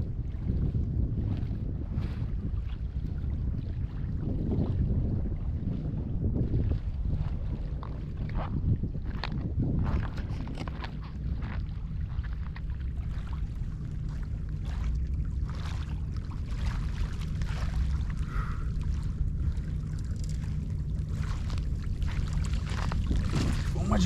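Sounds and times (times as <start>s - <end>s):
water sloshing and splashing: 0.0s - 24.0s
wind rumble on microphone: 0.0s - 24.0s.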